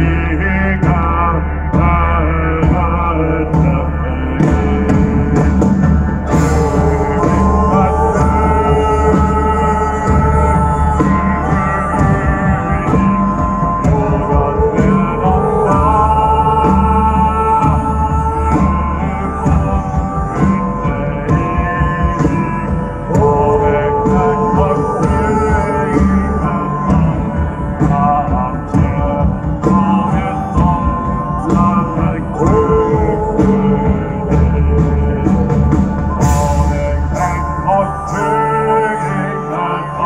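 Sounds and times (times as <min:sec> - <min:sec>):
regular drum beat: 0:00.0 - 0:39.6.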